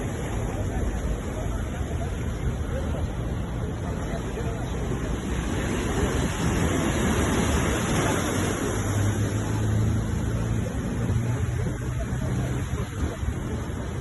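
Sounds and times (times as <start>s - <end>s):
waves breaking on shore: 0.0s - 14.0s.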